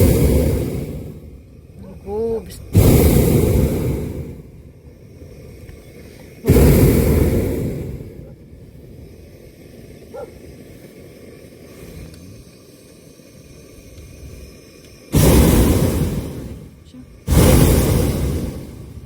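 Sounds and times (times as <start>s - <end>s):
low steady hiss: 0.0s - 19.0s
propane burner blast: 0.0s - 19.0s.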